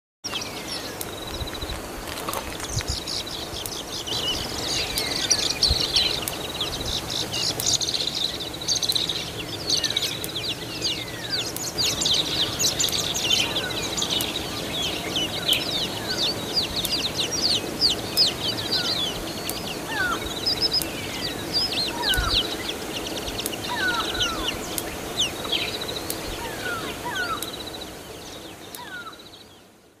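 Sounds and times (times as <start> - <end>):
birds chirping and calling: 0.3 - 29.6.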